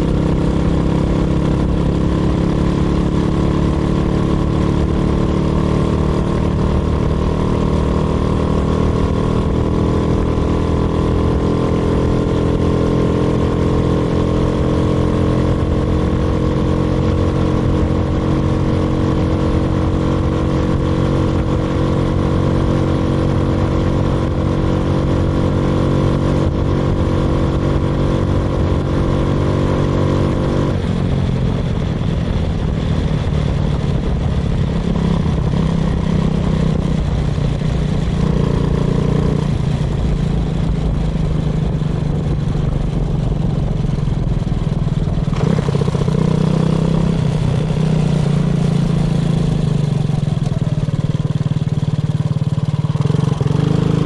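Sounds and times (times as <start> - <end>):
small kart engine running hard: 0.0 - 54.0.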